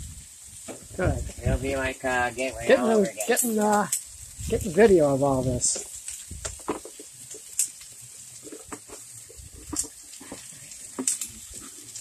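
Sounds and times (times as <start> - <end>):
fat popping and crackling: 0.0 - 12.0
meat sizzling on a grill: 0.0 - 12.0.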